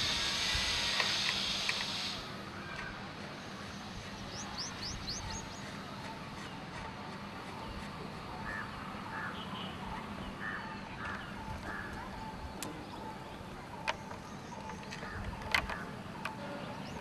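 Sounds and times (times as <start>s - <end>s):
birds harsh calls: 0.0s - 17.0s.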